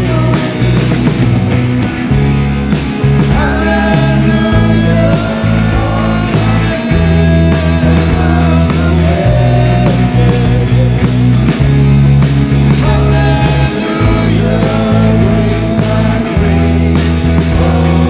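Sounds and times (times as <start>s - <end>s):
group of people singing: 0.0s - 1.1s, 3.2s - 11.6s, 12.5s - 18.0s
drum kit beat: 0.0s - 18.0s
electric and acoustic guitars: 0.0s - 18.0s.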